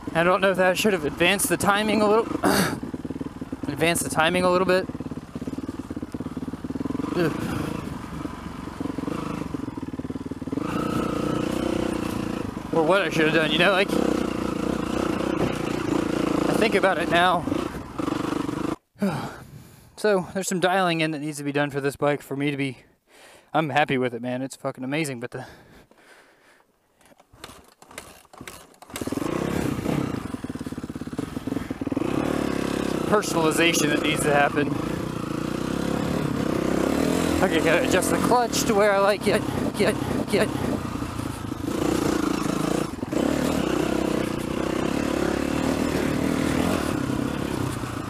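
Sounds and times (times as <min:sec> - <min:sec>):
dirt bike engine revving: 0:00.0 - 0:18.8, 0:27.4 - 0:48.0.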